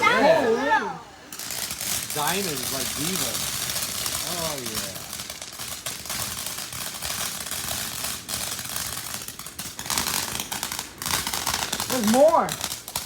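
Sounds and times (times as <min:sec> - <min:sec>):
firework fountain crackling: 0:00.0 - 0:13.0.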